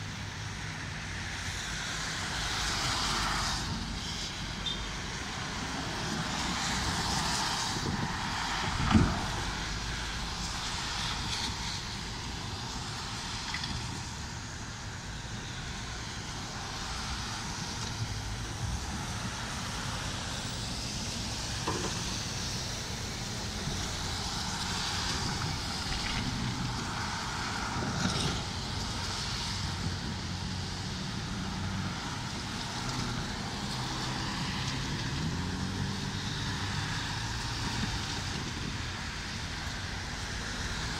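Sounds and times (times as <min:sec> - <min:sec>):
tyres hissing on wet road: 0:00.0 - 0:40.9.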